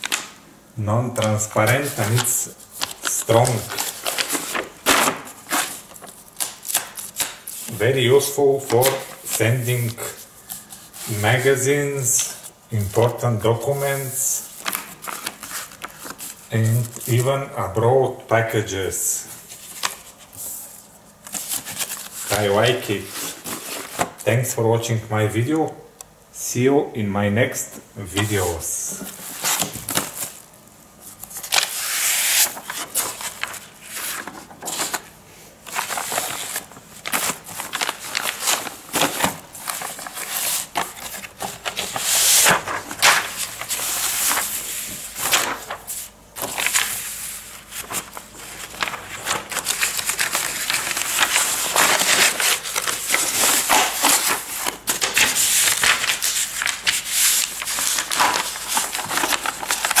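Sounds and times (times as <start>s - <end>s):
paper and plastic rustling: 1.2s - 17.3s, 19.3s - 24.4s, 28.1s - 60.0s.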